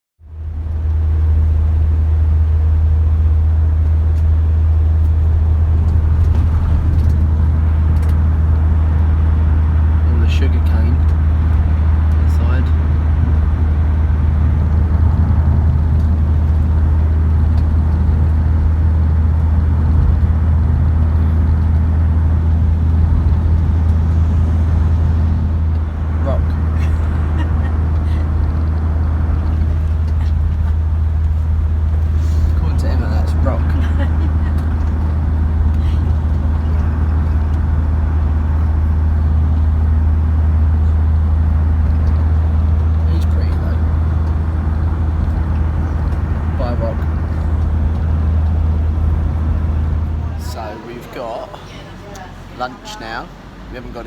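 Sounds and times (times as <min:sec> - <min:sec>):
motor vehicle rumbling: 0:00.2 - 0:54.0
road noise: 0:00.2 - 0:54.0.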